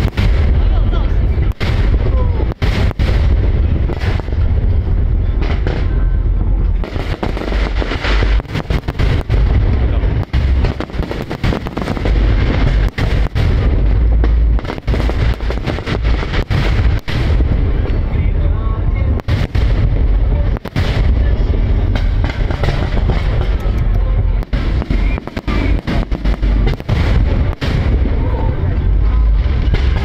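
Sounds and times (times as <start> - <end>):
sharp firework cracks: 0.0 - 6.1, 6.7 - 18.3, 19.1 - 30.0
firework shells booming: 0.0 - 30.0.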